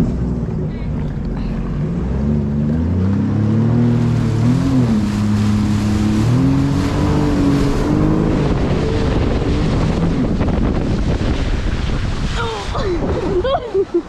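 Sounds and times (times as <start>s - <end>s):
jet ski engine running: 0.0s - 14.0s
water and wind rushing: 0.0s - 14.0s.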